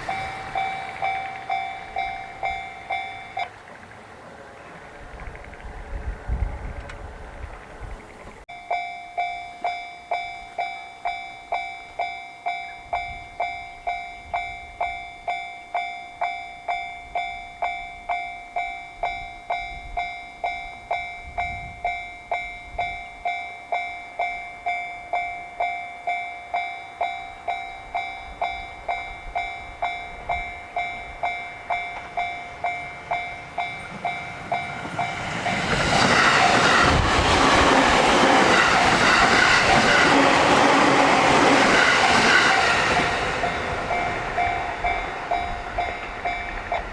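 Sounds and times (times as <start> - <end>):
level crossing bell ringing: 0.0 - 3.5, 8.5 - 46.9
train wheels on rails: 0.0 - 8.4, 9.5 - 46.9.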